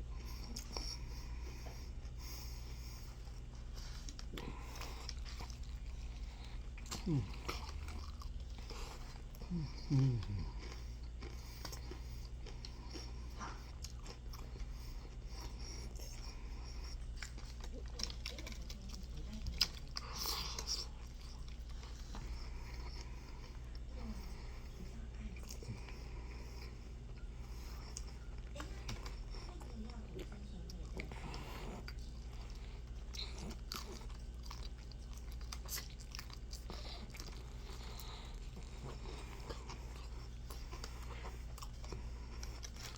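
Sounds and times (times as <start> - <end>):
person chewing crunchy food: 0.0 - 42.9
steady low hum: 0.0 - 42.9.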